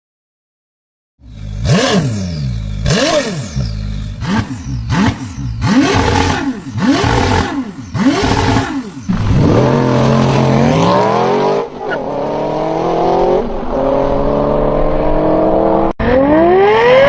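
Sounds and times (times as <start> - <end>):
vehicle engine revving: 1.2 - 17.0.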